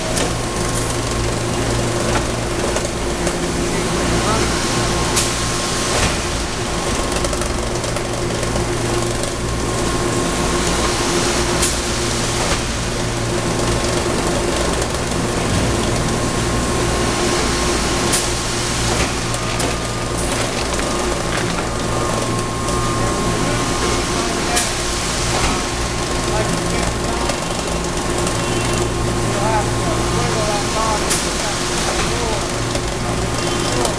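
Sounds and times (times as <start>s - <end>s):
machine hum with held tones: 0.0s - 33.9s.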